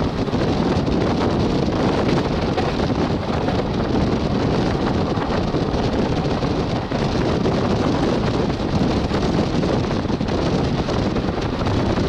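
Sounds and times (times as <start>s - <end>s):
train coach rumbling on track: 0.0s - 12.0s
wind on microphone: 0.0s - 12.0s.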